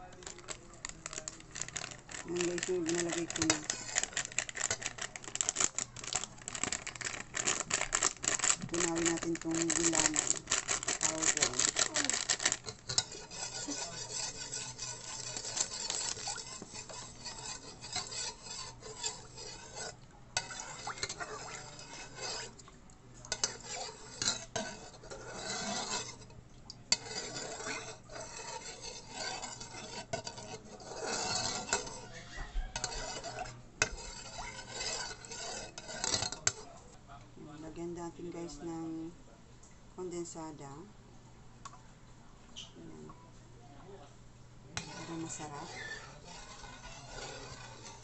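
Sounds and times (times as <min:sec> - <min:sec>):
metal spoon stirring in a pot: 0:00.0 - 0:22.6, 0:23.2 - 0:36.9, 0:44.7 - 0:48.0.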